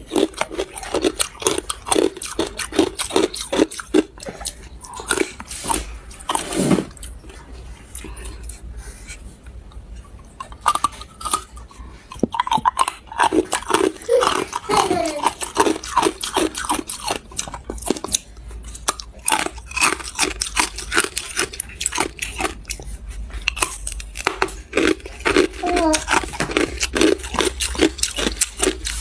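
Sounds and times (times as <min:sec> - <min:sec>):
ice being bitten and chewed: 0:00.0 - 0:07.3, 0:09.7 - 0:29.0.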